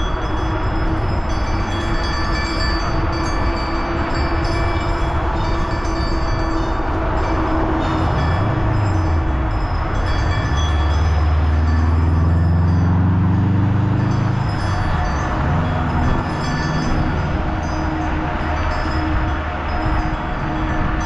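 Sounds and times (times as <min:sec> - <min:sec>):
road rumble: 0:00.0 - 0:21.0
wind: 0:00.0 - 0:21.0.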